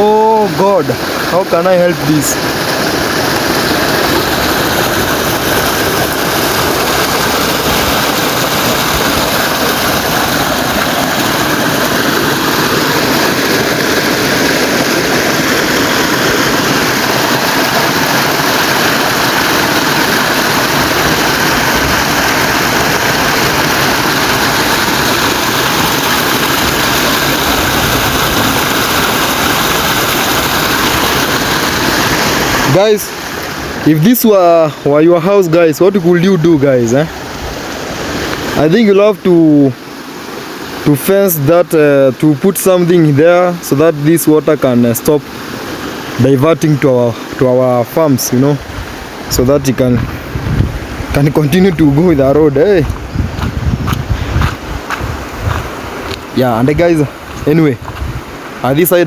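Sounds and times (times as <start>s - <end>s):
rushing flood water: 0.0s - 59.0s.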